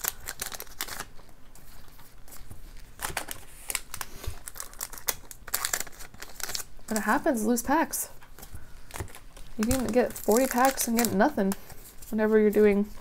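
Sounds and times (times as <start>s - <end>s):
foil wrapper crinkling and tearing: 0.0s - 7.7s, 8.3s - 12.1s.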